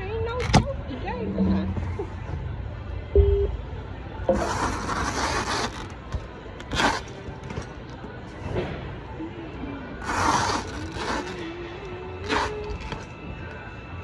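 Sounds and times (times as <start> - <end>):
warehouse hum: 0.9 - 14.0.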